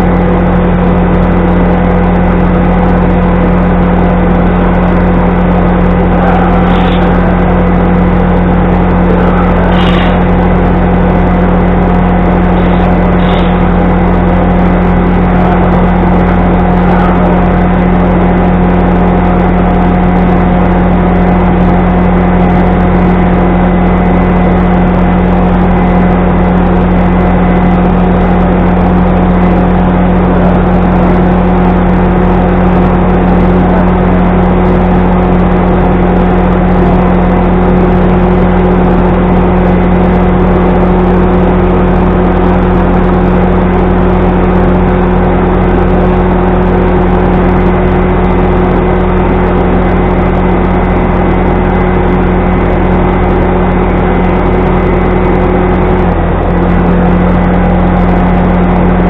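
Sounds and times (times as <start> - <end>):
loud mechanical drone: 0.0 - 59.0.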